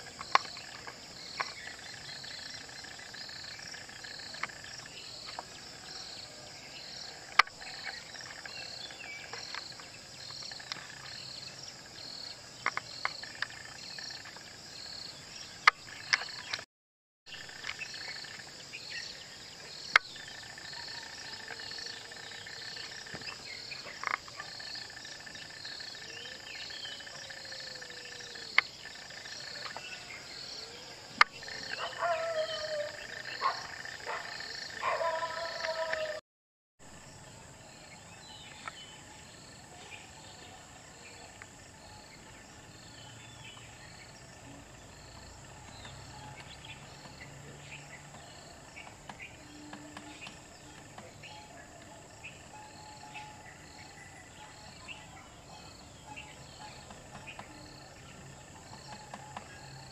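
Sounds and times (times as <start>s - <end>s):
insects buzzing: 0.0s - 16.7s, 17.3s - 36.2s, 36.9s - 59.9s.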